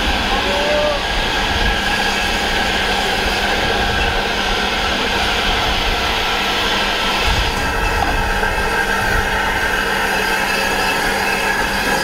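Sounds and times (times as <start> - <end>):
steam hissing: 0.0 - 12.0
steam locomotive rolling: 0.0 - 12.0.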